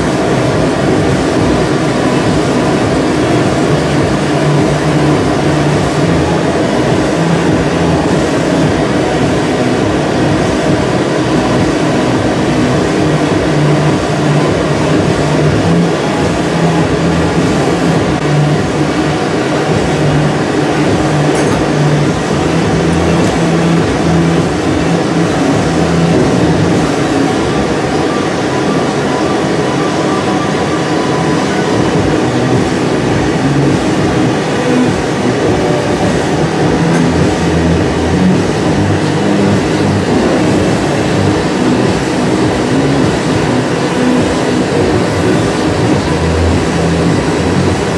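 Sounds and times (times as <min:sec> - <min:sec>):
gas burners and blowers roaring: 0:00.0 - 0:47.9
low wavering hum: 0:00.0 - 0:47.9.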